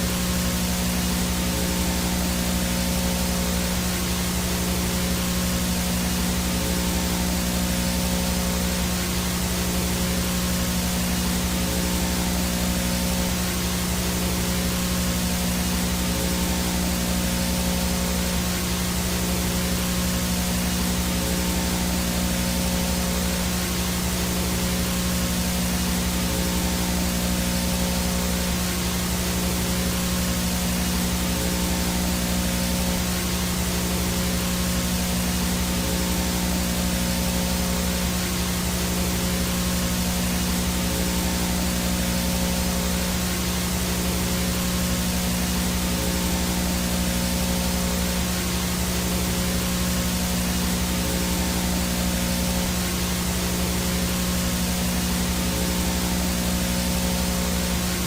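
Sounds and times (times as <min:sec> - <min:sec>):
low hum buzz: 0:00.0 - 0:58.0
static hiss: 0:00.0 - 0:58.0.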